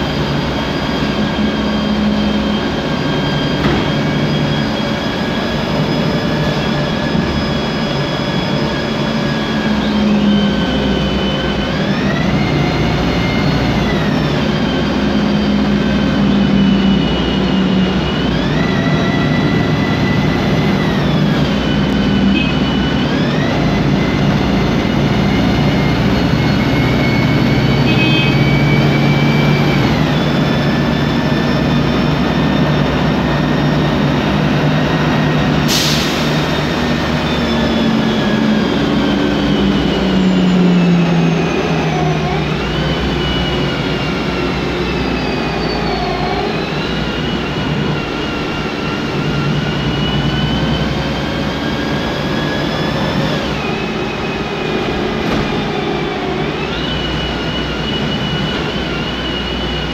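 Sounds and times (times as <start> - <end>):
gearbox whine: 0.0 - 35.6, 36.3 - 59.9
bus engine hum: 0.0 - 59.9.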